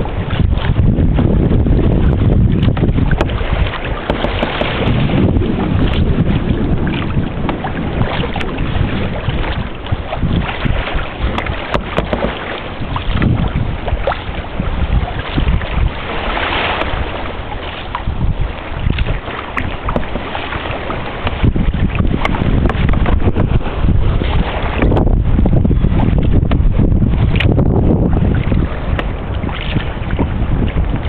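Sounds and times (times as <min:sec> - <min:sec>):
water splashing along kayak hull: 0:00.0 - 0:31.0
wind buffeting microphone: 0:00.0 - 0:31.0.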